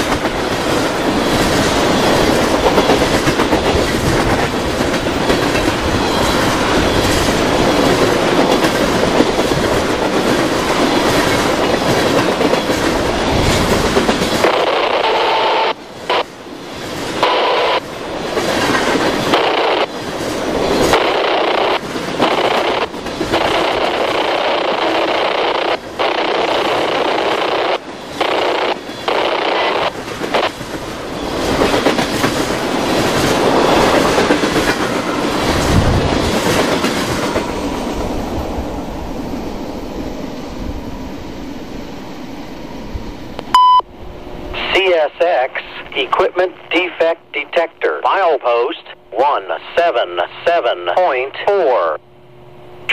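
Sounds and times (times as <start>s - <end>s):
steel wheels rumbling on rails: 0.0s - 43.4s.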